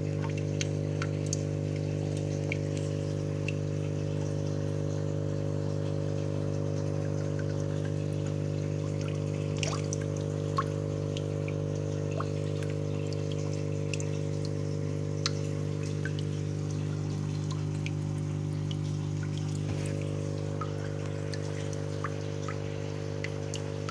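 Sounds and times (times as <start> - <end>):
low electric pump hum: 0.0 - 23.9
water dripping into tank: 0.0 - 23.9.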